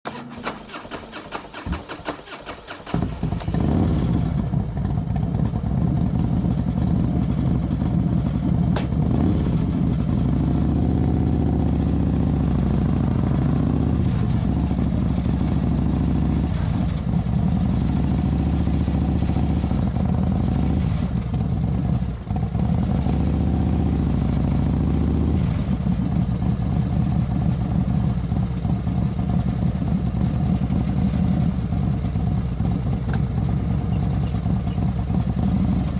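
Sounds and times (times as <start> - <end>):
motorcycle engine revving: 2.9 - 35.9.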